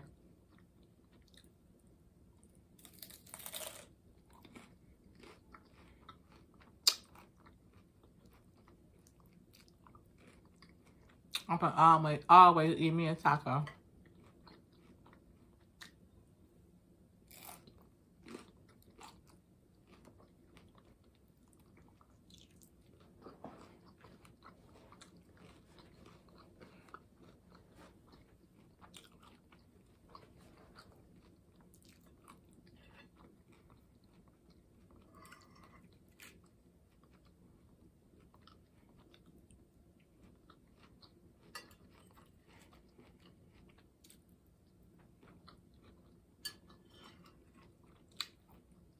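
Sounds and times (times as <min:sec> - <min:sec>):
chewing and biting food: 0:02.4 - 0:11.5, 0:14.0 - 0:16.1, 0:17.3 - 0:48.9.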